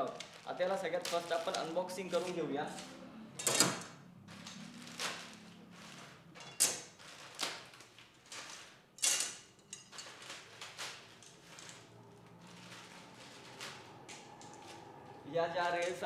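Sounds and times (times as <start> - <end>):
plastic wrapping rustling: 0.0 - 16.0.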